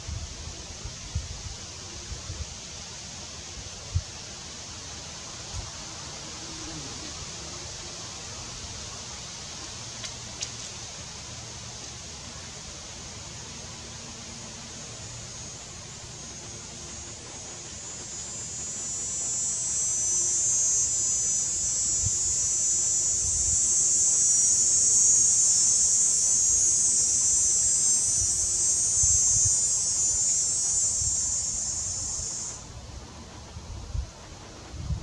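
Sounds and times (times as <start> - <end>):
cicada buzzing: 0.1 - 32.9.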